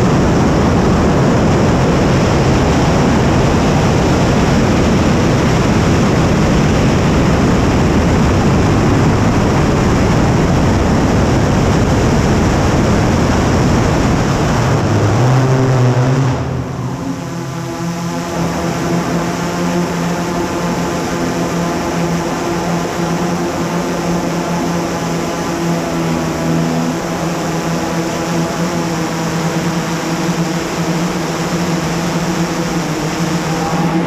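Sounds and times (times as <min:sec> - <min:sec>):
drone propellers humming: 0:00.0 - 0:34.0
rushing noise: 0:00.0 - 0:34.0.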